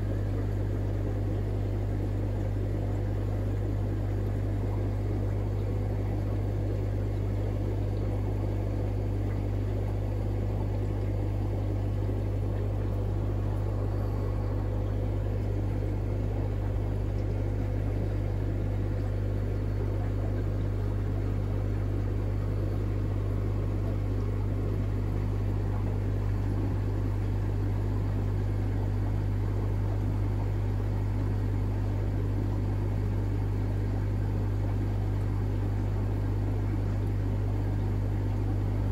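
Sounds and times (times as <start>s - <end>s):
air pump humming: 0.0s - 38.9s.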